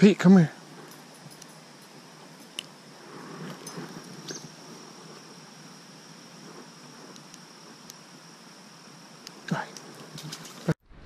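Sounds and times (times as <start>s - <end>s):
thin high whine: 0.0s - 11.0s.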